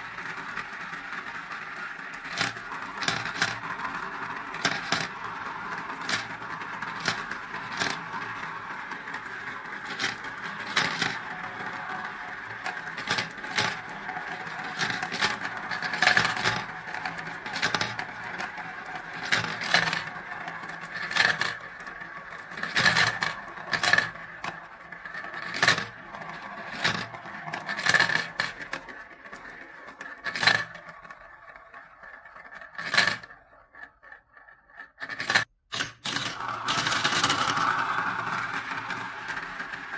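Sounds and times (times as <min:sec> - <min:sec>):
balls clacking on plastic: 0:00.0 - 0:39.9
balls rolling in plastic funnels: 0:00.0 - 0:39.9.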